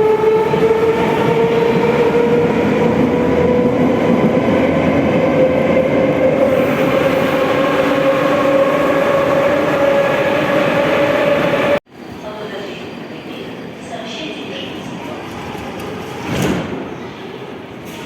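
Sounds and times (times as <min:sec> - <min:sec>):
metro train rumbling on rails: 0:00.0 - 0:18.0.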